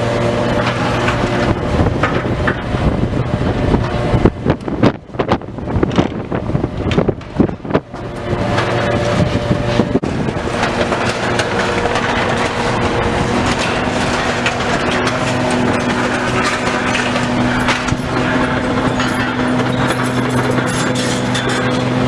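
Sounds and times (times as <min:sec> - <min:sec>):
debris crunching and cracking: 0:00.0 - 0:22.0
diesel engine running: 0:00.0 - 0:22.0.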